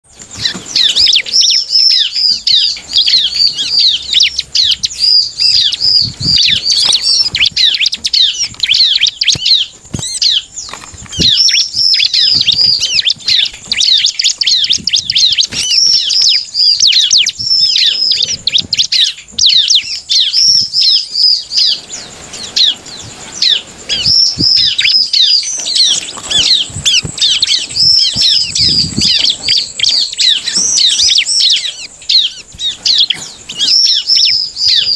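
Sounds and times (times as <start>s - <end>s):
bird singing high chirps: 0.0s - 34.9s.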